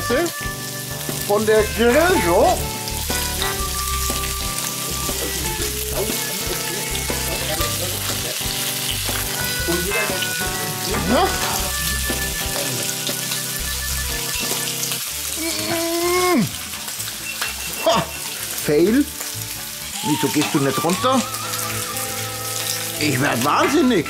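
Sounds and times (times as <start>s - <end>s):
background music with bass line: 0.0s - 24.0s
bacon sizzling on griddle: 0.0s - 24.0s.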